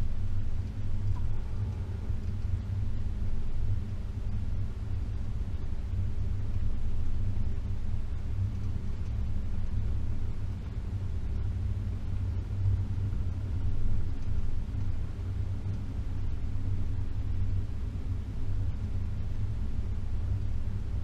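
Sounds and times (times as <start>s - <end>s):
vehicle engine low rumble: 0.0s - 21.0s.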